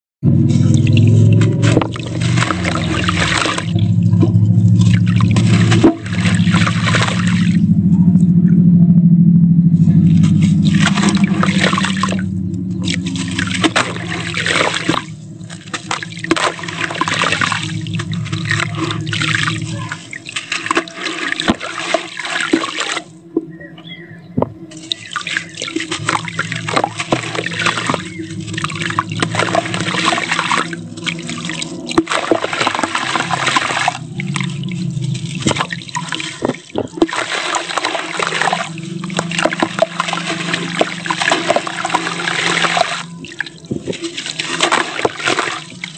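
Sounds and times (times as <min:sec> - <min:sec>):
low steady hum: 0:00.3 - 0:45.9
hands swishing through water: 0:00.6 - 0:07.6, 0:09.9 - 0:23.2, 0:24.7 - 0:45.9.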